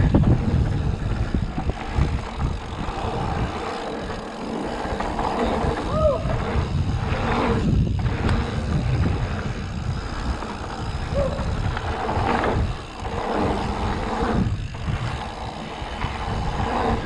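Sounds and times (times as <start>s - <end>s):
bike rumbling and rattling: 0.0s - 17.0s
wind buffeting microphone: 0.0s - 17.0s.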